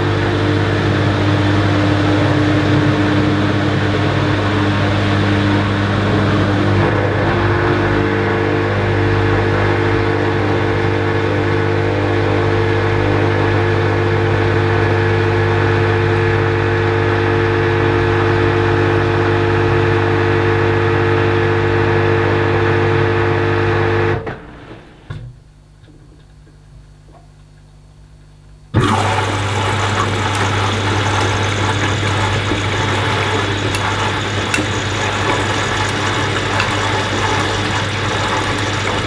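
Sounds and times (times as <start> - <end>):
washing machine drain pump humming: 0.0 - 23.6, 28.7 - 39.0.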